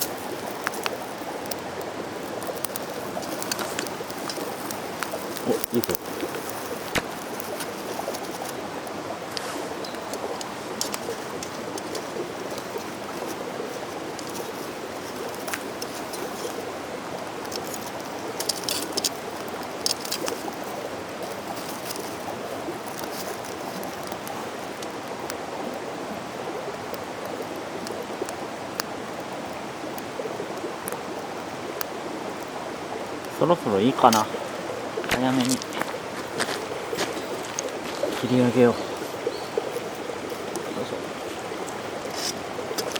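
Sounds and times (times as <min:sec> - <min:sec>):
mountain stream flowing: 0:00.0 - 0:42.9.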